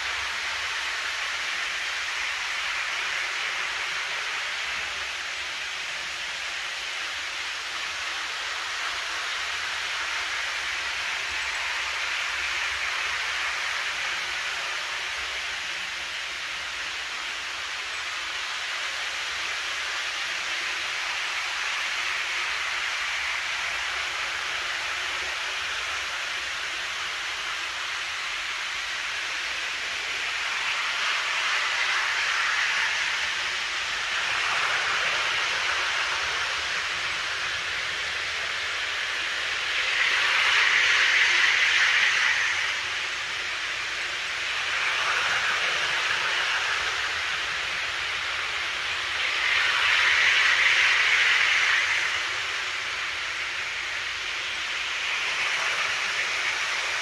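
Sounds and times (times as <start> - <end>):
model trains whirring on track: 0.0 - 57.0.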